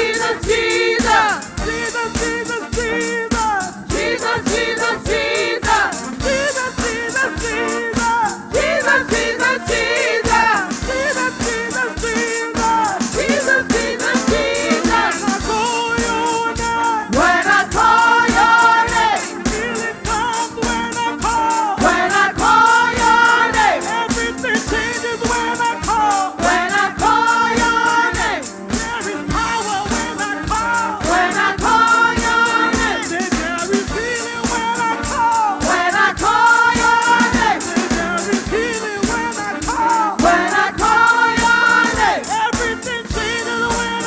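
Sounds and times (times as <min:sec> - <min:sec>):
drum kit beat: 0:00.0 - 0:44.0
voices singing over a band: 0:00.0 - 0:44.0.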